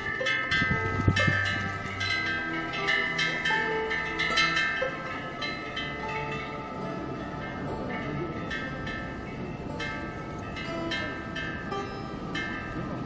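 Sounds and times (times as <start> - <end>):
wind bells ringing: 0.0 - 13.0.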